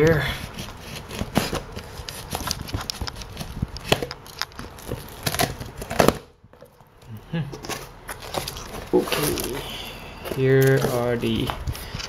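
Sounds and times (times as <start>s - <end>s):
cardboard and tape scraping: 0.3s - 6.3s, 7.5s - 12.0s.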